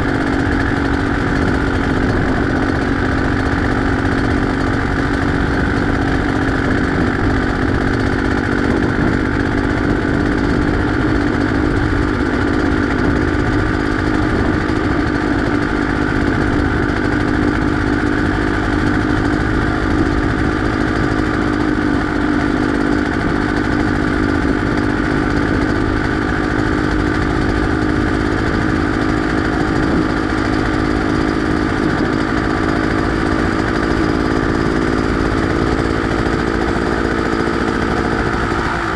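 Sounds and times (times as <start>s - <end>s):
constant low rumble: 0.0s - 38.9s
two-stroke engine running: 0.0s - 38.9s.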